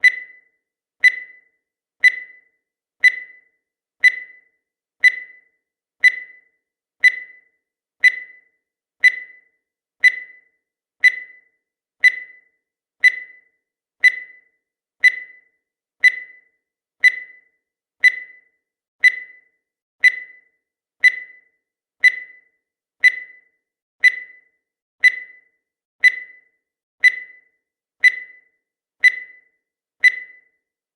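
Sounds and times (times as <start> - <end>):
timer beeping: 0.0 - 30.8.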